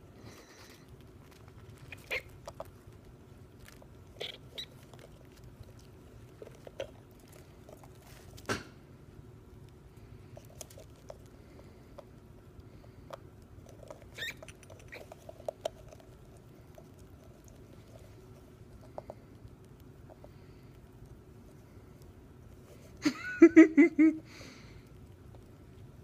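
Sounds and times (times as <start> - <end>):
rats licking and chewing: 0.0 - 23.0, 24.4 - 26.0.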